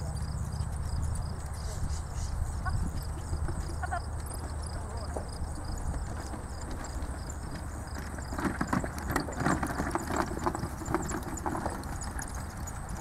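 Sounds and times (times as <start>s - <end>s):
pony hoofbeats trotting: 0.0s - 13.0s.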